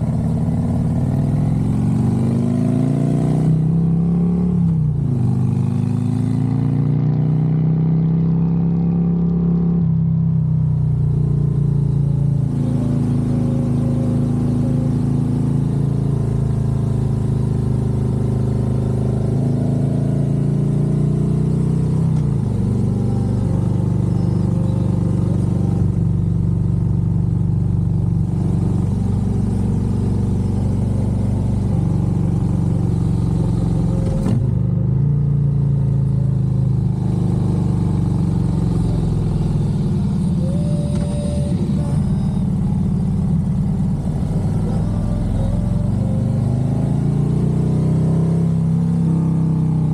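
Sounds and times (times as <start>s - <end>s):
motorcycle engine running: 0.0s - 7.6s, 10.4s - 49.9s.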